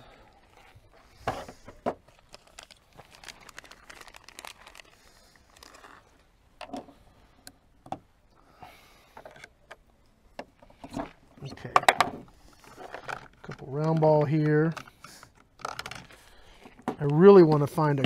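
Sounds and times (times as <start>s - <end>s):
clicks and knocks handling gear: 0.4s - 8.1s, 9.1s - 18.0s.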